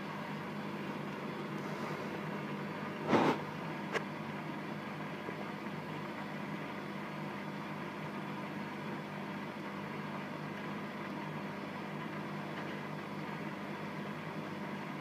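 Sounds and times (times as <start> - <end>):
washing machine spinning hum: 0.0 - 15.0.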